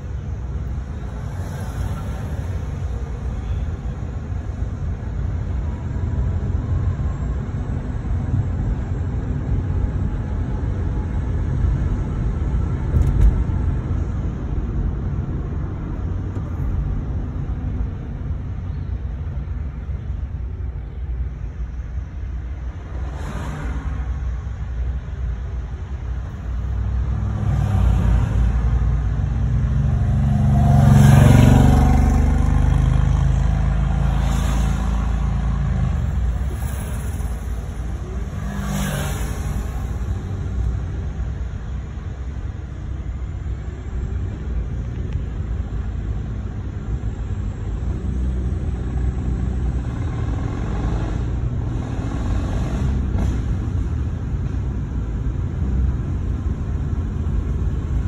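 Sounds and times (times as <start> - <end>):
motor vehicle rumble: 0.0 - 58.0.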